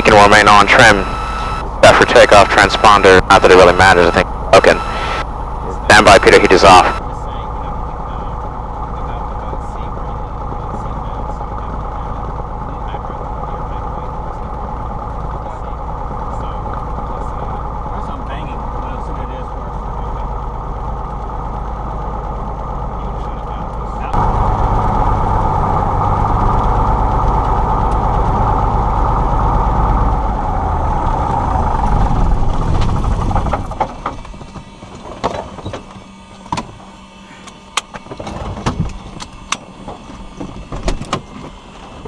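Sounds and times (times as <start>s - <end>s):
small plane engine running: 0.0s - 42.0s.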